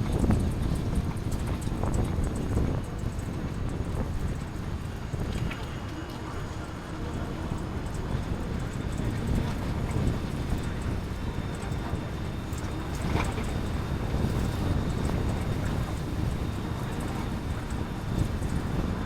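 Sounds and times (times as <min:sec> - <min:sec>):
bus engine and road rumble: 0:00.0 - 0:19.0
wind buffeting microphone: 0:00.0 - 0:19.0.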